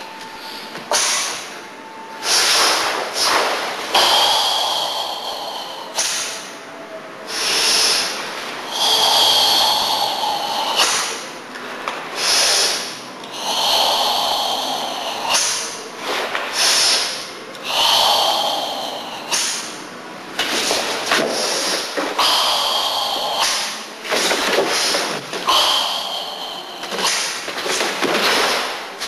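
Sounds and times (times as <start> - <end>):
deep forceful hissing breaths: 0.4 - 11.5, 12.1 - 29.0.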